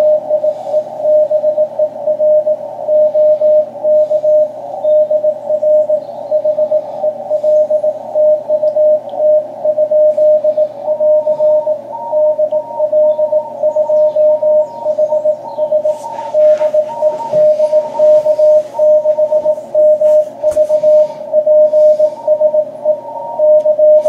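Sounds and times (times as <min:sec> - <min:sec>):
radio band hiss: 0:00.0 - 0:08.3, 0:09.4 - 0:24.0
higher-pitched morse signal: 0:00.0 - 0:24.0
morse code tone: 0:00.0 - 0:24.0.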